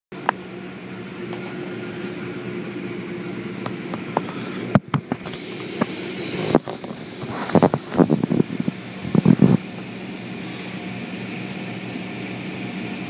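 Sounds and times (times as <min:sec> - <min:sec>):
car wash machinery hum: 0:00.1 - 0:13.0.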